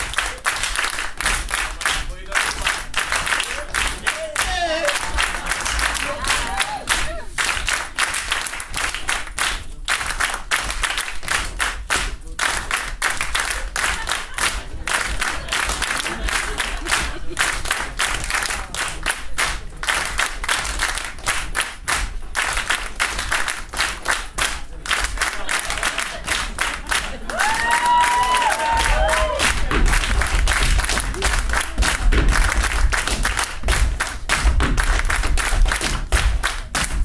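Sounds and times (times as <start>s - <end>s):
hand clapping: 0.0s - 37.0s
tap shoes on wooden stage: 0.0s - 37.0s.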